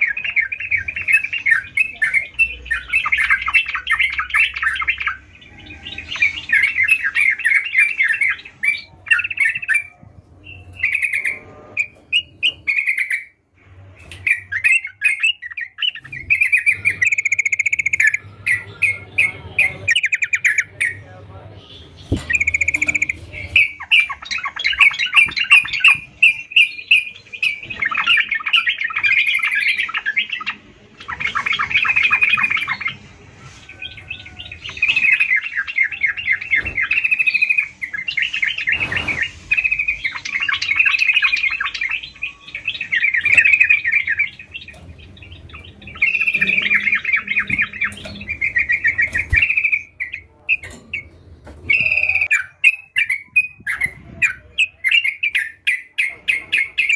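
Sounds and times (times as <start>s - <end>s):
bulbul singing chattering notes: 0.0s - 13.4s, 21.8s - 56.9s.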